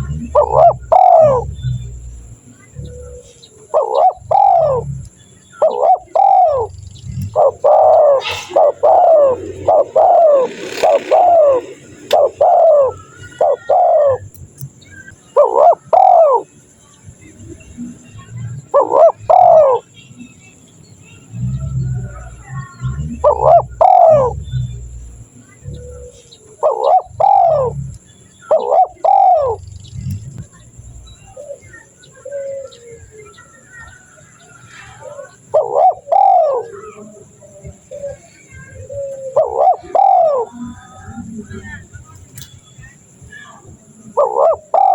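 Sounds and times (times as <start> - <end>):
dove cooing: 0.0 - 14.3, 14.9 - 16.5, 17.9 - 19.9, 21.2 - 42.3, 43.9 - 44.9.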